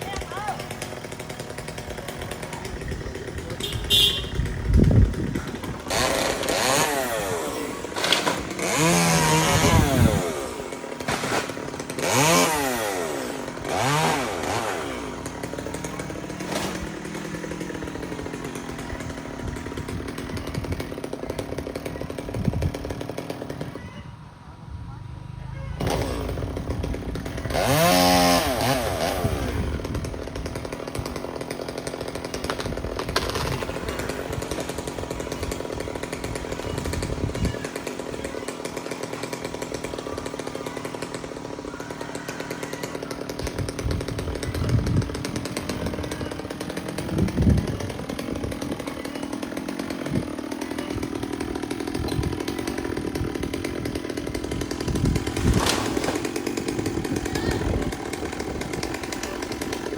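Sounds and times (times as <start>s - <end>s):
chainsaw running: 0.0s - 23.9s, 25.8s - 59.9s.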